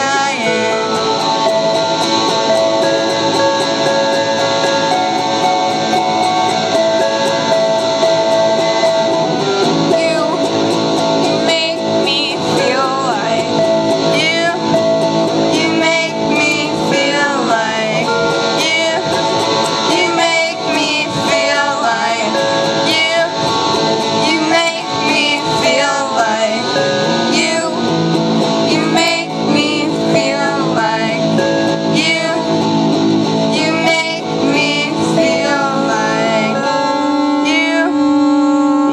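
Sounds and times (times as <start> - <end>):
person singing: 0.0 - 38.9
strummed electric guitar: 0.0 - 38.9
sustained keyboard notes: 0.0 - 38.9.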